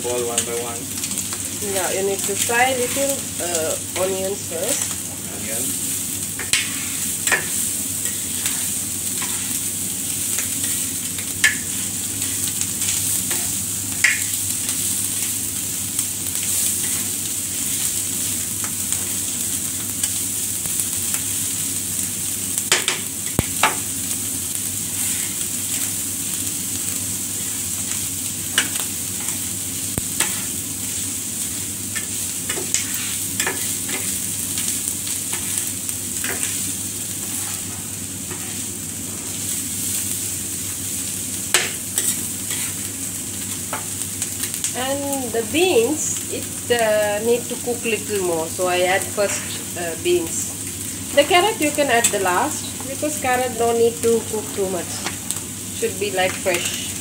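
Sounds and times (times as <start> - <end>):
food sizzling on griddle: 0.0 - 57.0.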